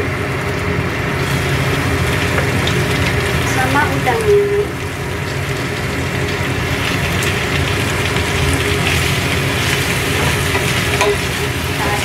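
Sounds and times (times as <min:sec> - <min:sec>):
shrimp sizzling in oil: 0:00.0 - 0:12.0.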